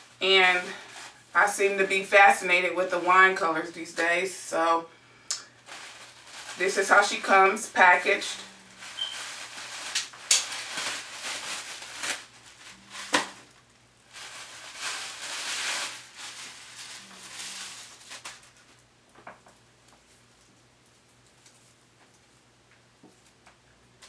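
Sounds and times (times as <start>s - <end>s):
plastic wrapping rustling: 0.0s - 4.4s, 5.4s - 22.4s.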